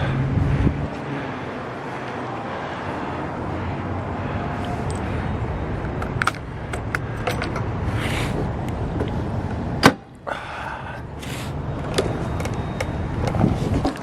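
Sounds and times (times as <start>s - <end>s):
wind and road rumble: 0.0s - 14.0s.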